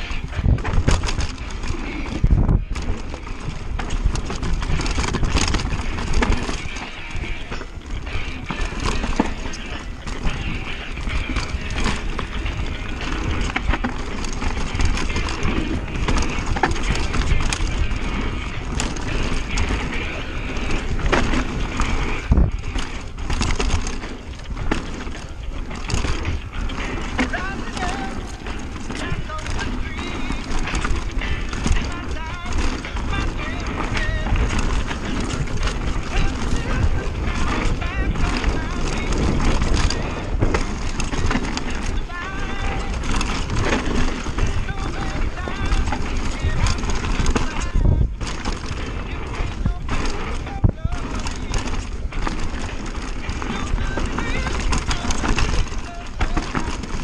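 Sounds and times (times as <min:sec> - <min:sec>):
wind rushing past microphone: 0:00.0 - 0:09.2, 0:09.8 - 0:56.3
bike knocking and rattling: 0:00.0 - 0:57.0
bike tyres rumbling over dirt: 0:00.0 - 0:57.0.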